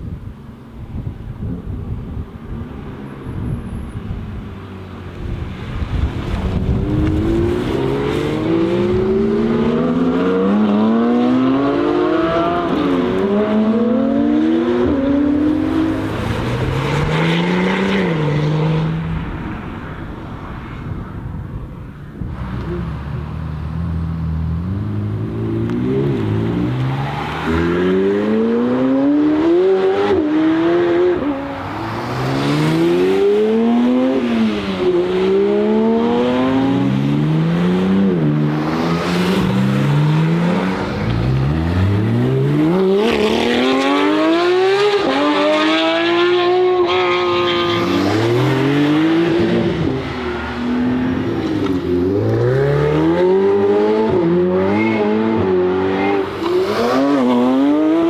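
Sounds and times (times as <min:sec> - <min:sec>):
sports car accelerating hard: 0:05.6 - 0:19.6, 0:22.2 - 0:58.0.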